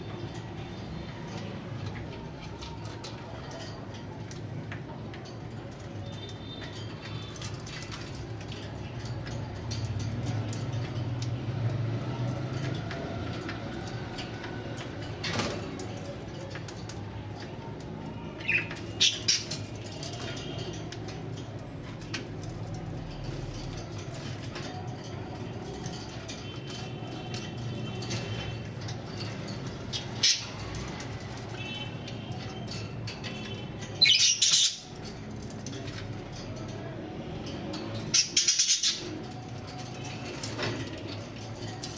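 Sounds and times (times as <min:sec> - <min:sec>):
birds shuffling on perches: 0:00.0 - 0:41.9.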